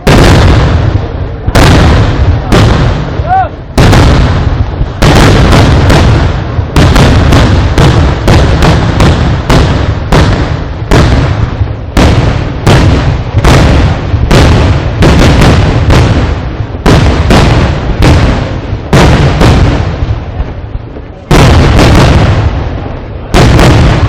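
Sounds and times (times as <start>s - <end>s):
continuous low rumble: 0.0s - 24.0s
fireworks blasts: 0.0s - 24.0s.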